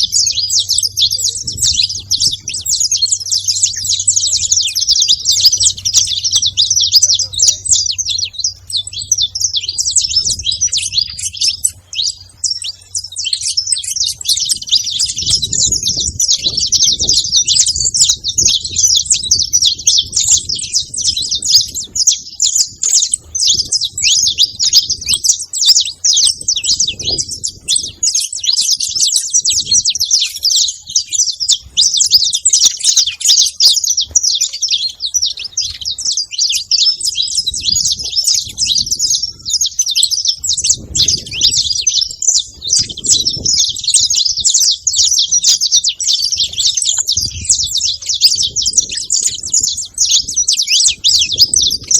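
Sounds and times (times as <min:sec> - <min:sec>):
finch chirping and trilling: 0:00.0 - 0:51.9.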